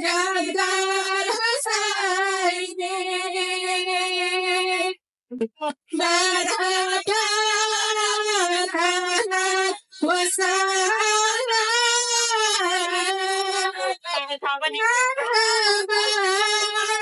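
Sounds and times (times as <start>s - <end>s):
women singing: 0.0s - 5.0s, 5.7s - 17.0s.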